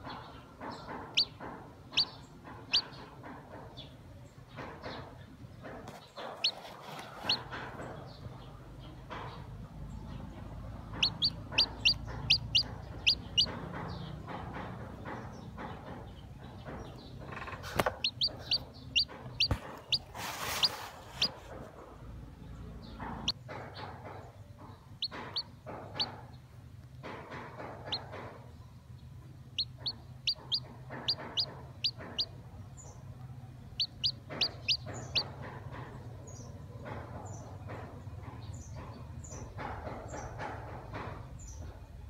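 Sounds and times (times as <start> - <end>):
chick peeping: 0.0 - 42.0.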